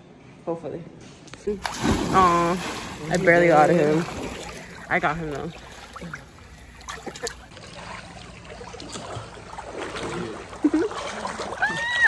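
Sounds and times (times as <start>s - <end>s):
pool water sloshing and lapping: 1.3s - 12.0s
small water splashes: 1.6s - 12.0s.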